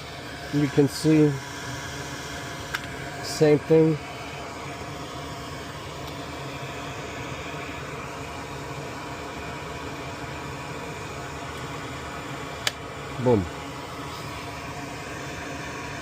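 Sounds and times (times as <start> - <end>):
small fan whirring: 0.0 - 16.0.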